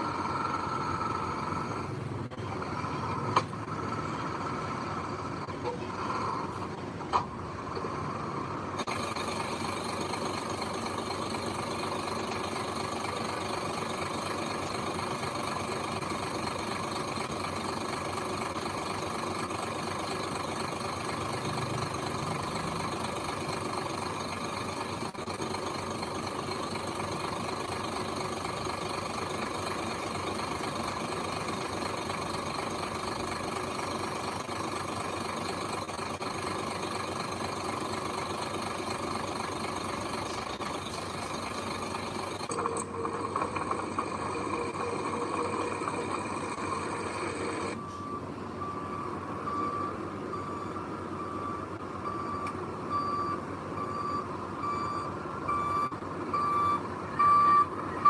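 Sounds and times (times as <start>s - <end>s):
heavy machinery diesel engine droning: 0.0s - 58.0s.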